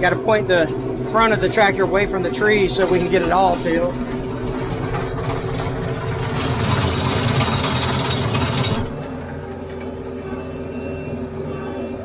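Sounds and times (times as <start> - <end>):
rotary tiller clattering: 0.0 - 10.4
tractor diesel engine running: 0.0 - 10.7.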